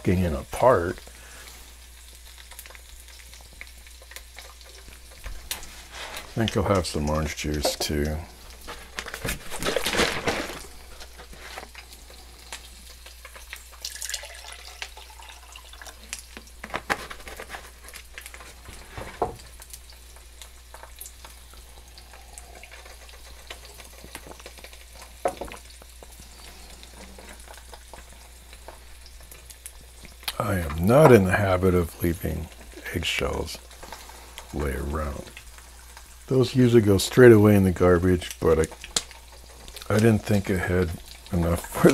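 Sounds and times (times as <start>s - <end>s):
eggs sizzling in a pan: 0.0s - 41.9s.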